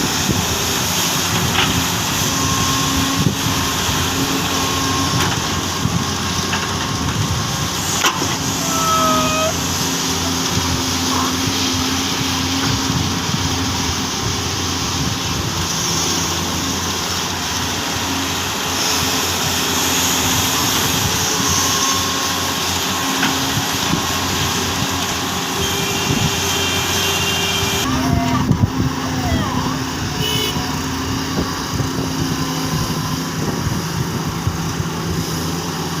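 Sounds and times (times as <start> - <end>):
excavator diesel engines droning: 0.0 - 36.0.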